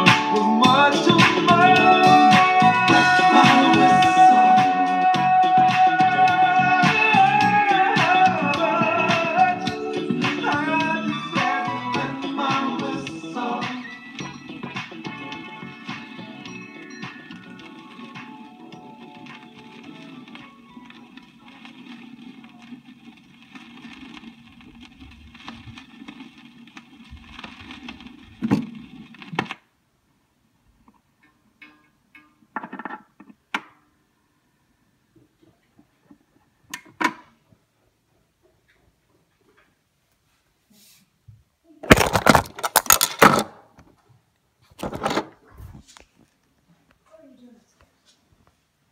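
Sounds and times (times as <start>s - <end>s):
vinyl record hiss and crackle: 0.0s - 48.9s.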